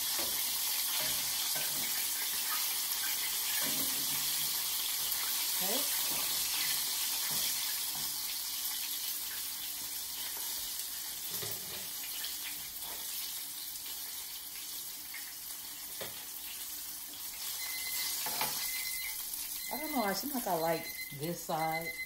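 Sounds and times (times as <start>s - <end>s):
food sizzling in hot oil: 0.0s - 21.8s.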